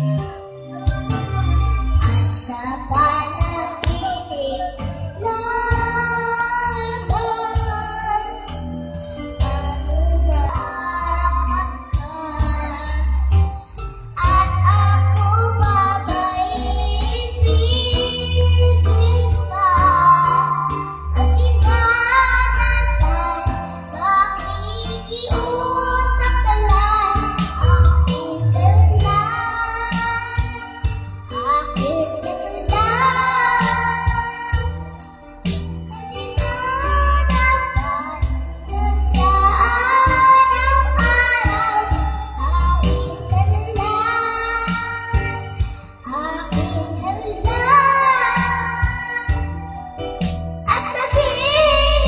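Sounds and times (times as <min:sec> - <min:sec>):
backing track with beat and bass: 0:00.0 - 0:52.0
girl singing into a microphone: 0:02.4 - 0:08.7, 0:09.4 - 0:13.4, 0:14.2 - 0:35.1, 0:35.9 - 0:49.8, 0:50.7 - 0:52.0.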